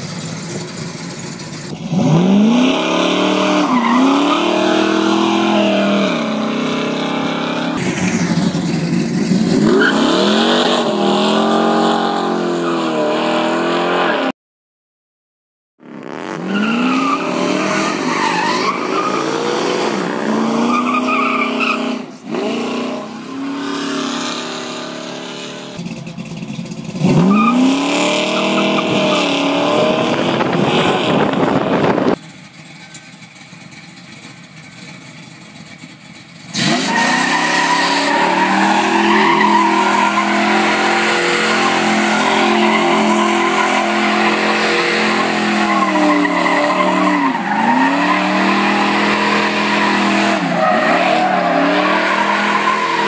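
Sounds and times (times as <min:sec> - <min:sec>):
car engine revving hard: 0:01.8 - 0:14.3, 0:15.8 - 0:25.8, 0:27.0 - 0:32.2, 0:36.5 - 0:53.0.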